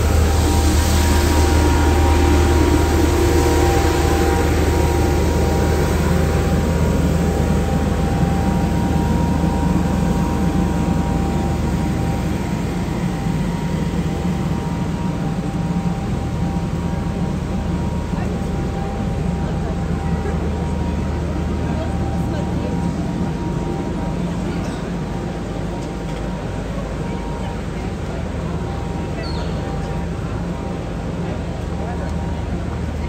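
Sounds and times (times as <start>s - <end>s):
faint steady hums: 0.0s - 33.0s
low engine rumble: 0.0s - 33.0s.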